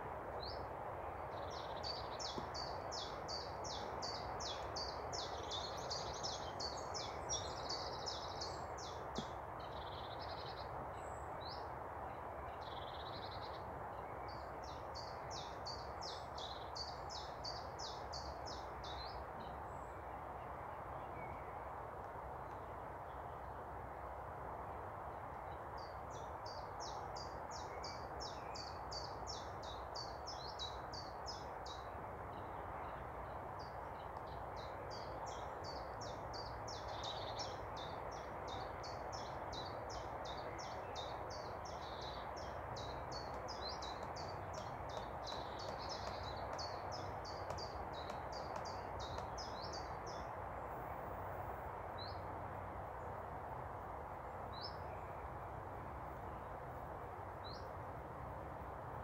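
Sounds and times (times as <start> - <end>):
steady background noise: 0.0 - 59.0.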